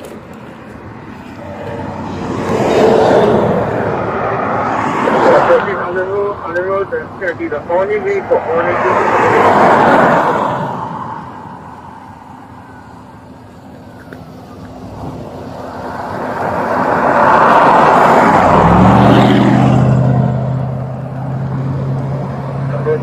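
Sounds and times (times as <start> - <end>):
low engine drone: 0.0 - 23.0
vehicle passing road noise: 0.0 - 23.0.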